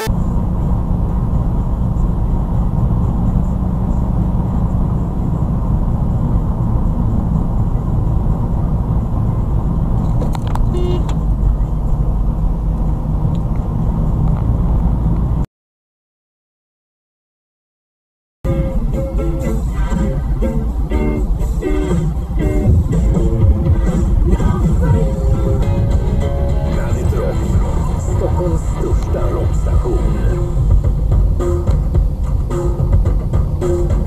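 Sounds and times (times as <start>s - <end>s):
car engine and road noise: 0.0s - 15.5s, 18.4s - 34.0s.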